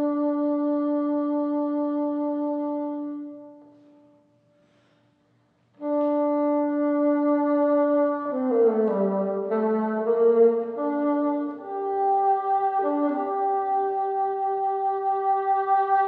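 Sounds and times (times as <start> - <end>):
solo bassoon: 0.0 - 4.4, 5.8 - 16.0.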